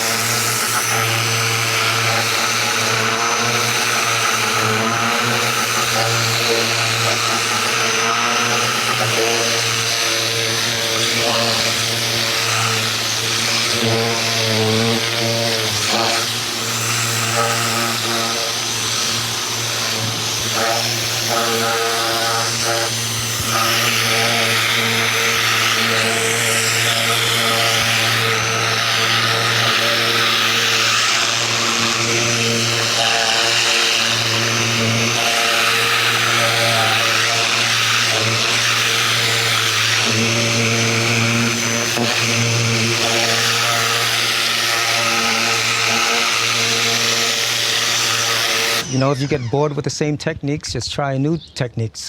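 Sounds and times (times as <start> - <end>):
pressure washer motor humming: 0.0 - 50.4.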